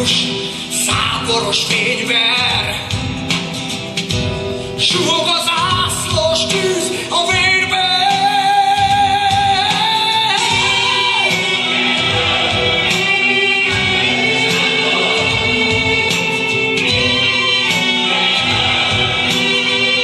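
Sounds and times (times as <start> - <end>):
folk song singing: 0.0 - 3.2, 4.8 - 20.0
instrumental music: 0.0 - 20.0.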